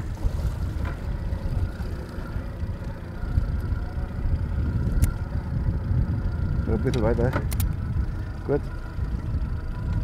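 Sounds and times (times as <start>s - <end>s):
boat engine rumble: 0.0s - 10.0s.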